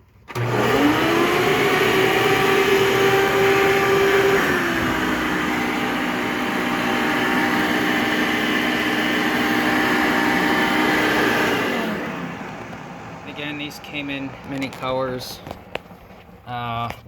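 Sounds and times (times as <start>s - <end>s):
vacuum motor whining: 0.2s - 16.3s.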